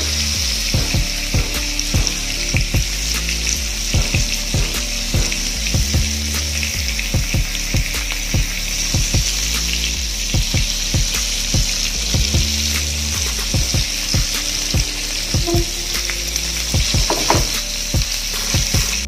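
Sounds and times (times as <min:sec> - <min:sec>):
background music with beat: 0:00.0 - 0:19.0
chicken sizzling in pan: 0:00.0 - 0:19.0.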